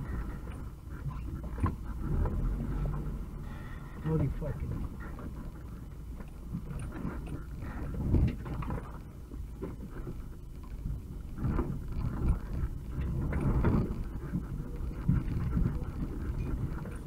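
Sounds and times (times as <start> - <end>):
van engine rumbling: 0.0 - 17.0.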